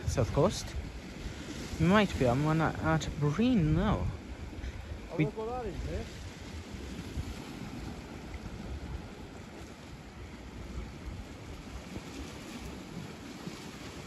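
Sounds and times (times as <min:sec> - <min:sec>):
sea waves washing: 0:00.0 - 0:14.0
wind gusting over microphone: 0:00.0 - 0:14.0.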